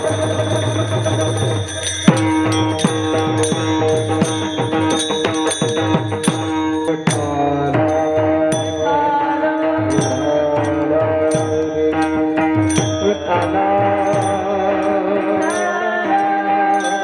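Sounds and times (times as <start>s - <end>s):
hand cymbal clashes: 0.0s - 17.0s
harmonium drone and melody: 0.0s - 17.0s.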